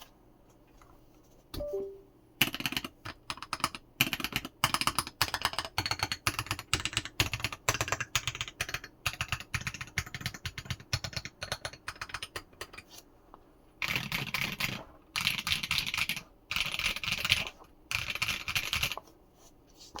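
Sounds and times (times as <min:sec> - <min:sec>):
mechanical keyboard typing: 0:01.6 - 0:12.8, 0:13.8 - 0:19.0.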